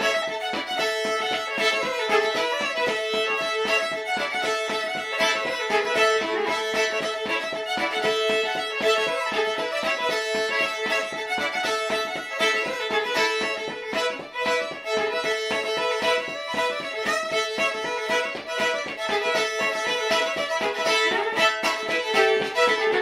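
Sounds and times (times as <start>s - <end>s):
feet tapping on wooden floor: 0.0s - 23.0s
fiddle drone notes: 0.0s - 23.0s
fiddle playing dance tune: 0.0s - 23.0s.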